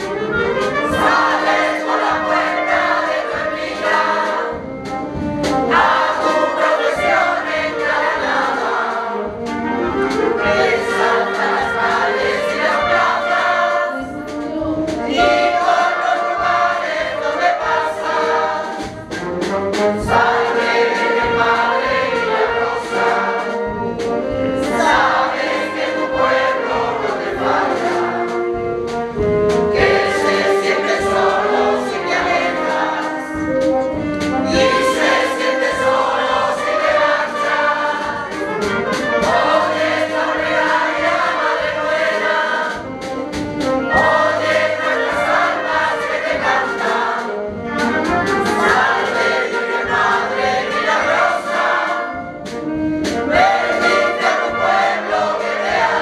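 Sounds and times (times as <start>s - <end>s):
choir singing held notes: 0.0s - 56.0s.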